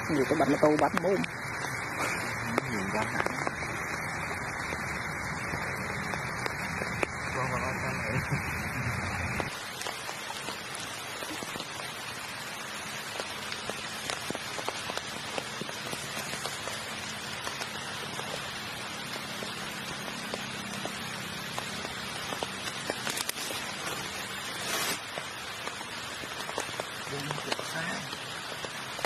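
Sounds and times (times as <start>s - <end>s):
rain on leaf litter: 0.0s - 29.0s
rustle: 0.0s - 29.0s.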